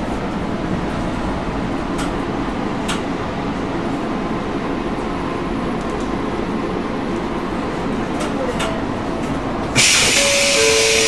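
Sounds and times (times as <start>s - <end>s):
electric train interior noise: 0.0s - 11.0s.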